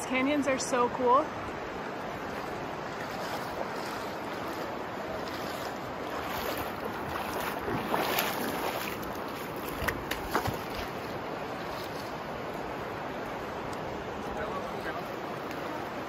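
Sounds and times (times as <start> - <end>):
river water rushing over rocks: 0.0 - 16.0
shoes splashing through water: 1.7 - 16.0.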